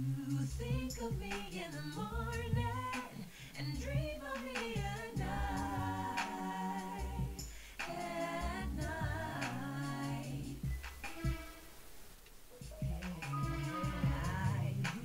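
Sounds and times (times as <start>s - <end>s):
layered female harmony vocals: 0.0s - 11.5s, 13.2s - 15.0s.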